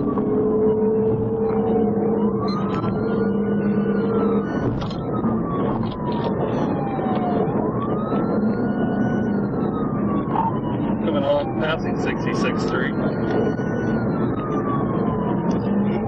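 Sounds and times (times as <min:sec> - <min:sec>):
car road and engine noise: 0:00.0 - 0:16.0
police siren wailing: 0:00.0 - 0:16.0.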